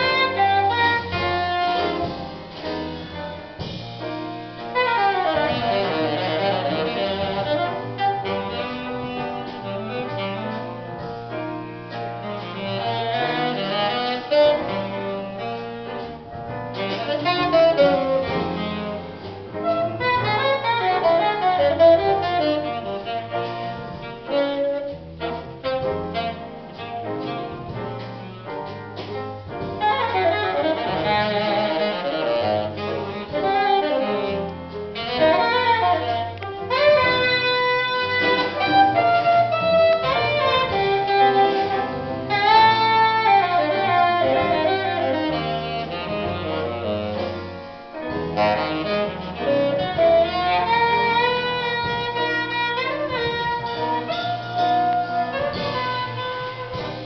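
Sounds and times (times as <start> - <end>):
jazz quartet playing: 0.0 - 57.0
saxophone solo: 0.0 - 57.0.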